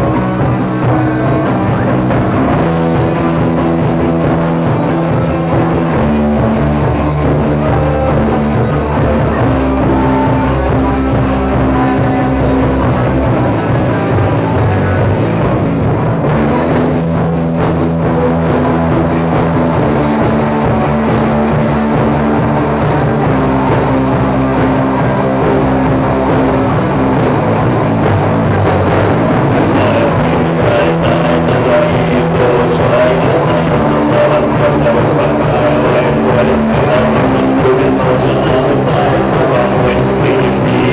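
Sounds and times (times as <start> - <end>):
drums: 0.0 - 40.9
electric guitar: 0.0 - 40.9
rock music: 0.0 - 40.9.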